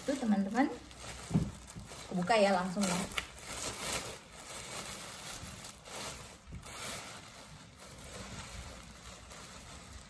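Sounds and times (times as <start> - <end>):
plastic bag rustling and crinkling: 0.0 - 10.0.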